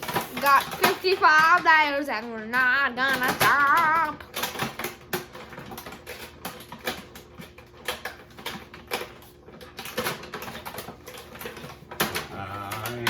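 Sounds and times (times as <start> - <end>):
toy packaging clicking and crinkling: 0.0 - 13.0.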